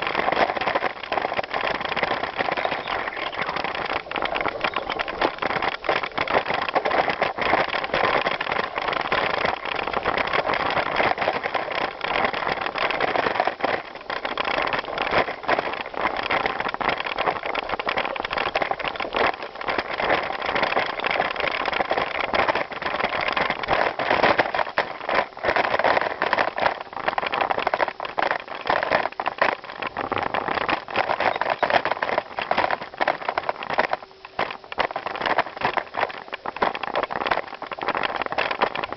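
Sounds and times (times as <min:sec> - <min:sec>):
bicycle rattling: 0:00.0 - 0:38.9
bicycle tyres crunching on gravel: 0:00.0 - 0:38.9.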